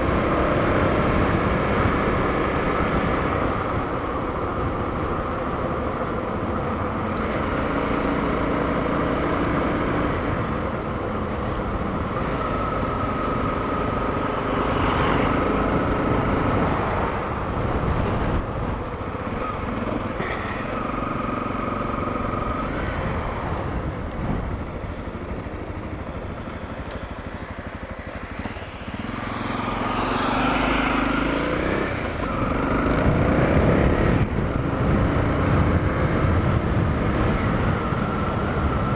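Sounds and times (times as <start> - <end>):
motorcycle engine running: 0.0 - 38.9
road noise: 0.0 - 38.9
wind noise: 0.0 - 38.9.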